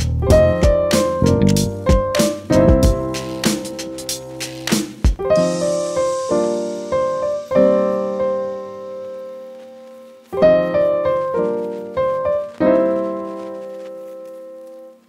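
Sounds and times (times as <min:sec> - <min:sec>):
slow piano chords: 0:00.2 - 0:15.0.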